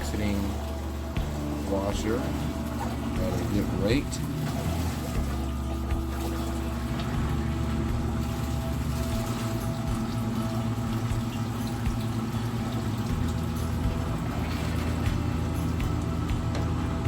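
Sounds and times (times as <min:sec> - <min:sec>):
washer drain pump humming: 0:00.0 - 0:17.0.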